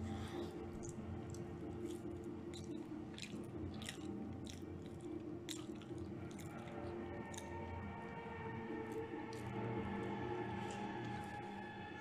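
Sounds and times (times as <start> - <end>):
person chewing crunchy food: 0.0 - 8.1, 8.8 - 11.7.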